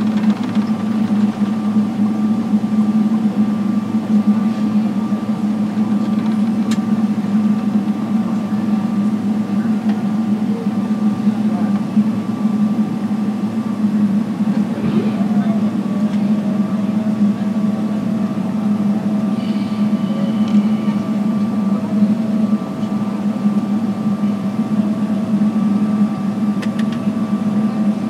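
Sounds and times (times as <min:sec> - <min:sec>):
airplane cabin engine drone: 0:00.0 - 0:28.0.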